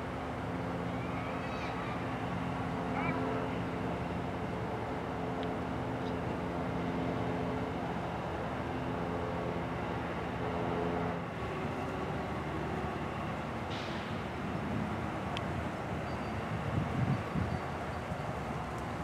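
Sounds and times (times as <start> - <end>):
diesel locomotive engines droning: 0.0 - 19.0.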